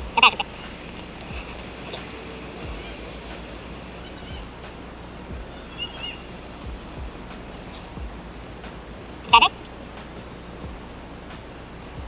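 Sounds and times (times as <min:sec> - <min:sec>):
low rumble: 0:00.0 - 0:12.0
outdoor background hiss: 0:00.0 - 0:12.0.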